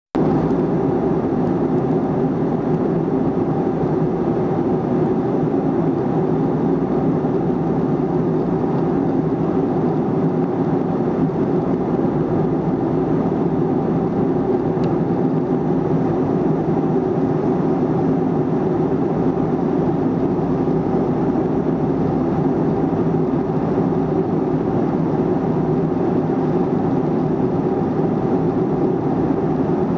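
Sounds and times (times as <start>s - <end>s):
airliner cabin engine noise: 0.2s - 29.9s.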